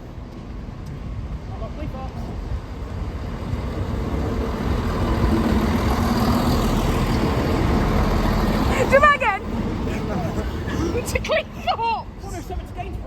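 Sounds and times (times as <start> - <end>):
diesel train engine rumbling: 0.0 - 13.0.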